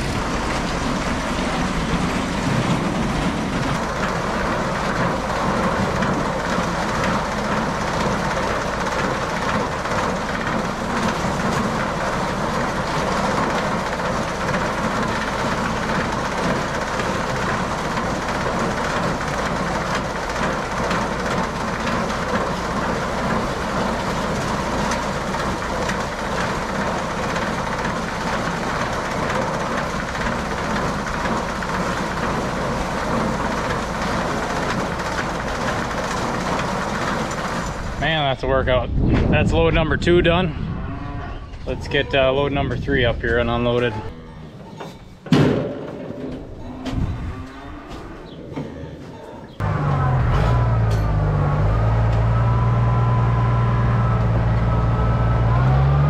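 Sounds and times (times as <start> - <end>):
farm machinery rattling: 0.0 - 40.4, 41.5 - 56.0.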